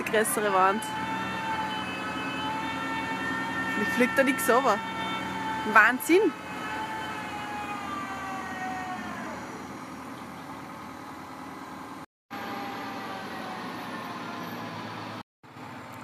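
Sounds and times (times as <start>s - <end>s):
multi-tone whine: 0.0s - 15.2s
crane truck engine running: 0.0s - 16.0s.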